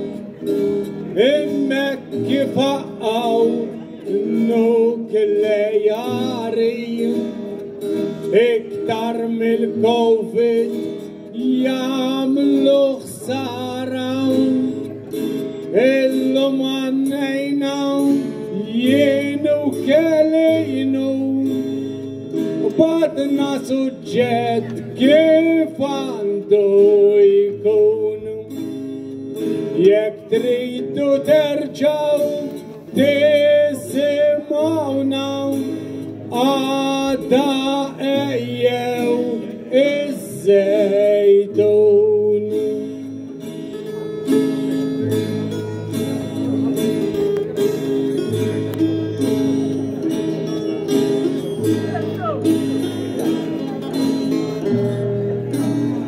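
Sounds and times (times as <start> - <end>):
acoustic guitars playing: 0.0 - 56.0
man singing folk melody: 0.0 - 56.0.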